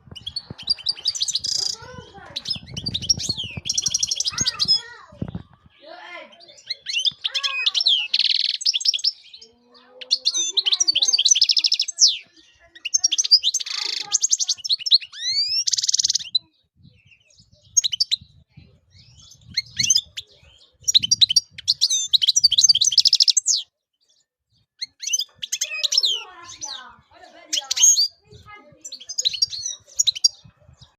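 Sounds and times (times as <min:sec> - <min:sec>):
goldfinch singing: 0:00.1 - 0:30.9.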